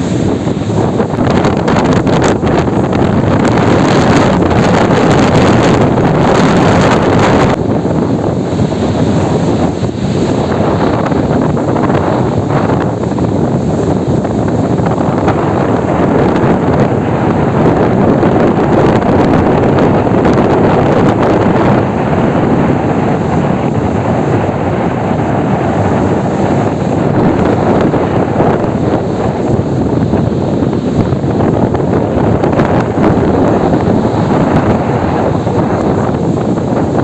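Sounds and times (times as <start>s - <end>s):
storm surf washing: 0.0s - 37.0s
wind buffeting microphone: 0.0s - 37.0s.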